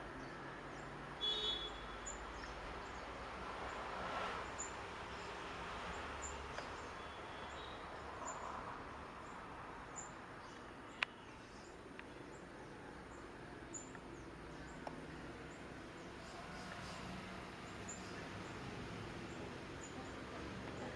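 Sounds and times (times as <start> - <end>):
faint outdoor background noise: 0.0 - 20.9.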